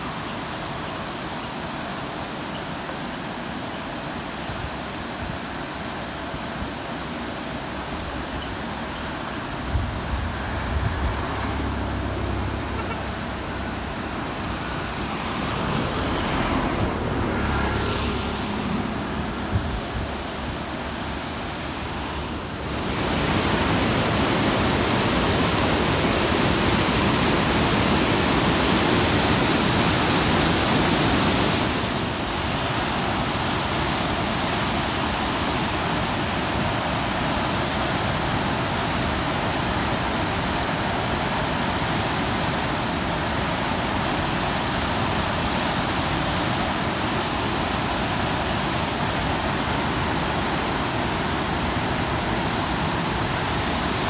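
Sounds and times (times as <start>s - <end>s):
floodwater rushing through gates: 0.0s - 54.0s.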